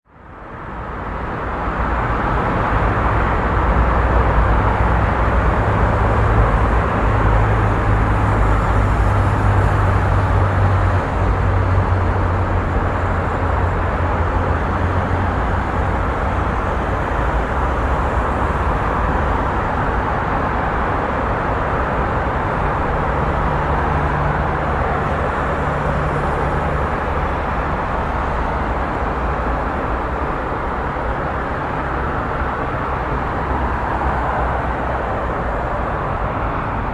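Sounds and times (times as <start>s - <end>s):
traffic noise: 0.0s - 36.9s
low hum of engines: 0.1s - 36.9s.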